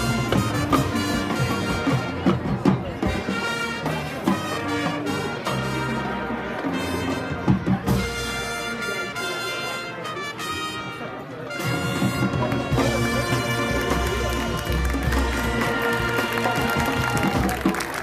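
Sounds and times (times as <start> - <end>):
brass section holding chords: 3.1 - 17.5.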